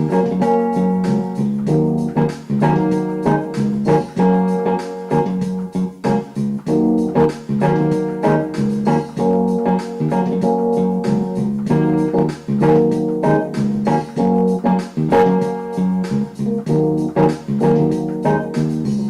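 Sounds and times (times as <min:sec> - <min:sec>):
plucked guitar-like notes: 0:00.0 - 0:18.8
keyboard or organ: 0:00.0 - 0:19.0.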